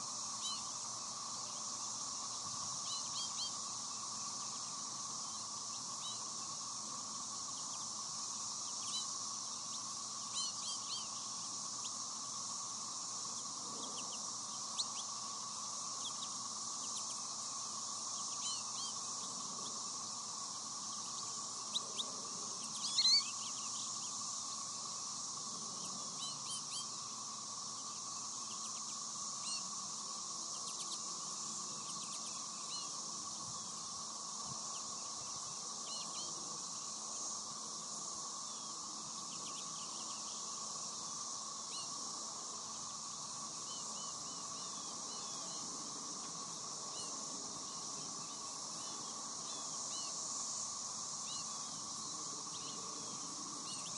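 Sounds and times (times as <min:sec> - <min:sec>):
insect chorus: 0:00.0 - 0:53.9
goldfinches chirping: 0:00.1 - 0:53.9.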